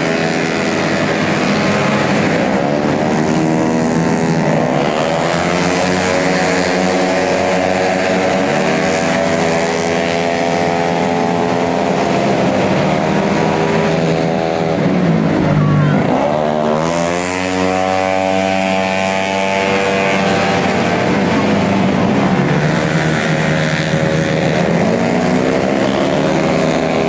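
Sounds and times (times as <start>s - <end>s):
scooter engine revving: 0.0s - 27.0s.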